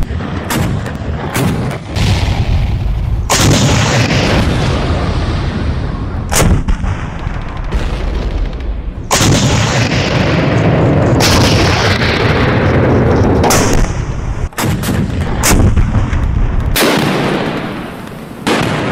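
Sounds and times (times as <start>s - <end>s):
sharp cracks: 0.0s - 4.8s, 6.2s - 18.9s
heavy gun blasts with rumbling decay: 0.0s - 18.9s.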